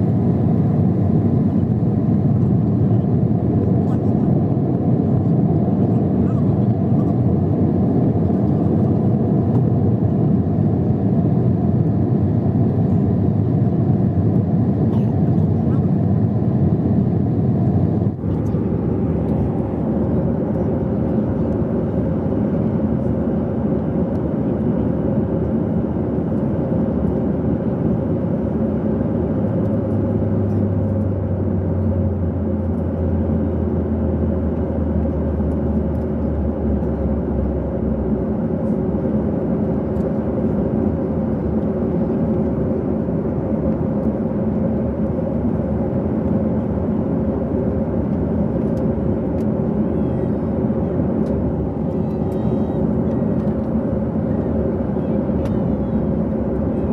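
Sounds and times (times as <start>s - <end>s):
aircraft engine drone: 0.0s - 56.9s.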